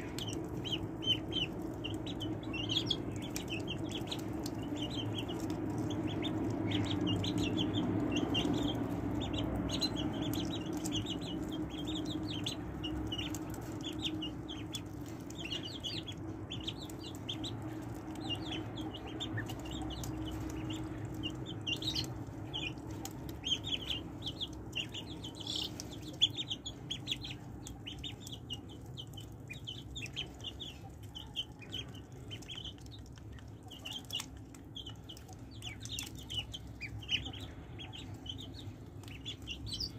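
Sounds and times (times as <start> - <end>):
ducklings peeping: 0.0 - 39.9
low steady hum: 0.0 - 39.9.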